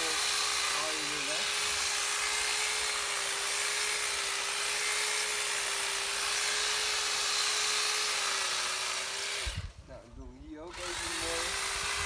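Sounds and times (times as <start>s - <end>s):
electric hedge trimmer running: 0.0s - 9.8s, 10.6s - 12.0s.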